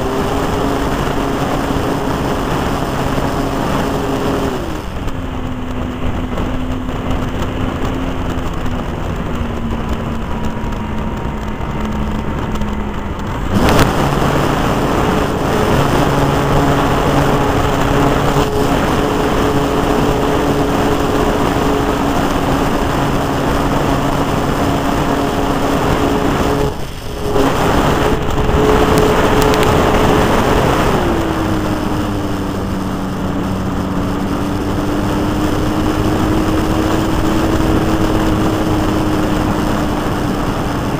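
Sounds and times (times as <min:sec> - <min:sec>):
model airplane engine: 0:00.0 - 0:40.9
wind rush: 0:00.0 - 0:40.9.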